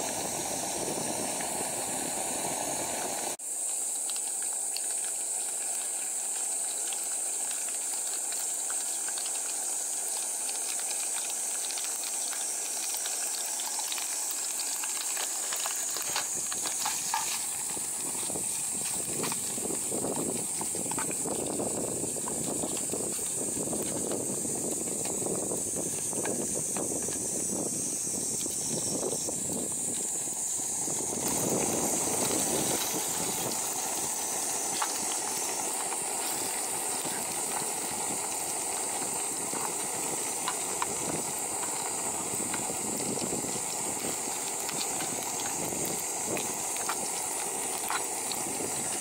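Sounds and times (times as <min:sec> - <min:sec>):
bacon sizzling in oil: 0:00.0 - 0:49.0.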